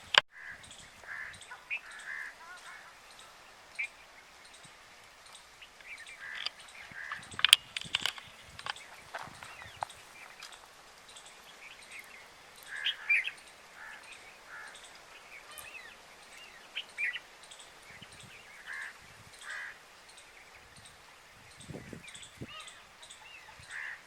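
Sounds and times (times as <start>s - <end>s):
wild birds chirping: 0.0s - 24.0s.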